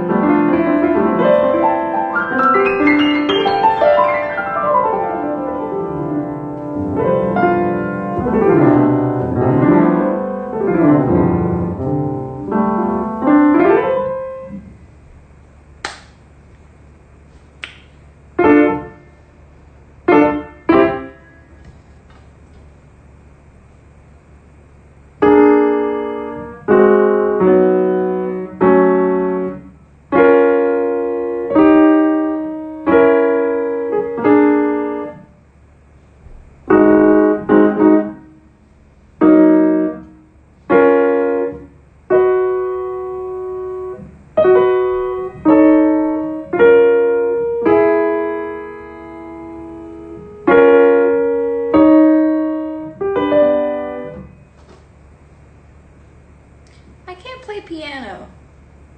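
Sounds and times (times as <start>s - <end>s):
slow piano chords: 0.0s - 15.2s, 18.3s - 22.6s, 25.2s - 35.4s, 36.2s - 54.8s.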